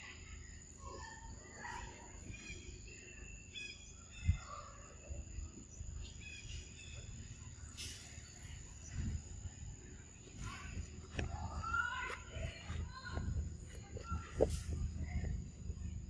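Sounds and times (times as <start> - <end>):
faint chirping calls: 0.0 - 16.0.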